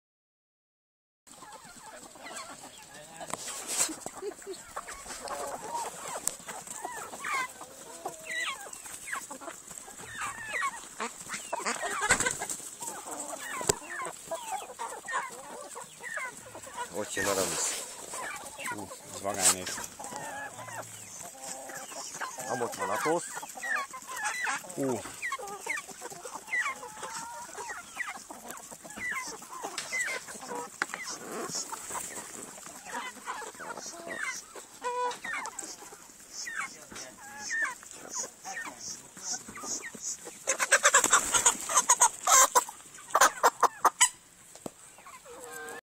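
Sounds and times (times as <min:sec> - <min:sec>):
chickens clucking: 0:01.3 - 0:45.8.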